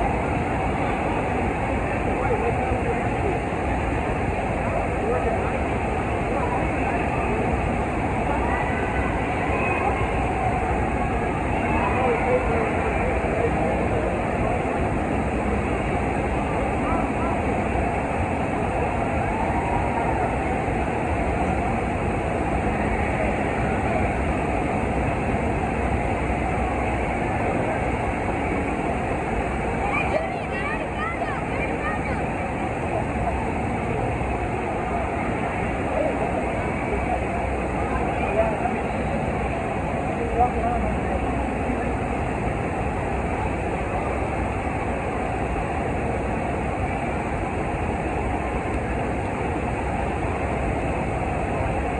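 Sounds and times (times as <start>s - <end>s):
water rushing from wave machine: 0.0s - 51.9s.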